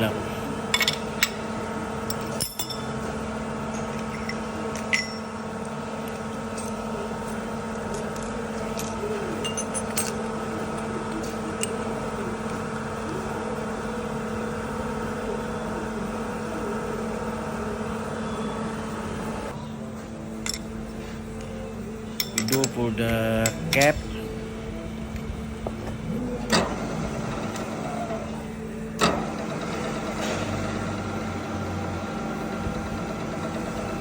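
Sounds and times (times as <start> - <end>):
machine tool humming: 0.0 - 34.0.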